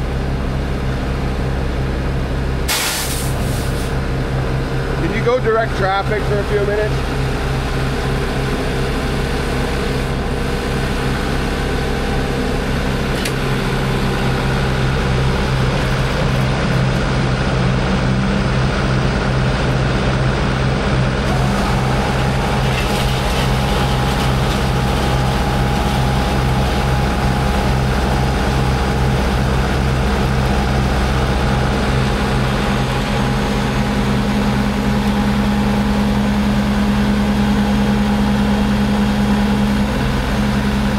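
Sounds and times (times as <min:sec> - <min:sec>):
diesel engine running: 0:00.0 - 0:40.9
high steady whine: 0:00.0 - 0:40.9.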